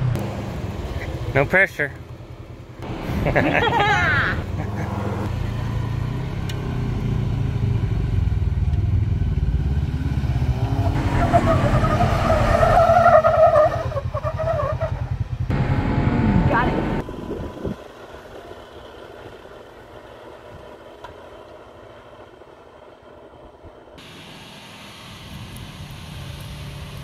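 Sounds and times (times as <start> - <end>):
car engine under load: 0.0 - 27.0.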